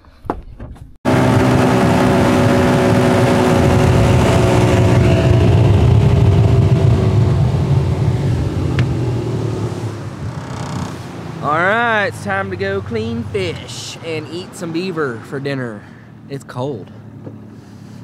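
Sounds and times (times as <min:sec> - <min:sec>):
wind: 0:00.2 - 0:18.0
outboard motor drone: 0:01.1 - 0:18.0
rushing water: 0:01.4 - 0:16.0.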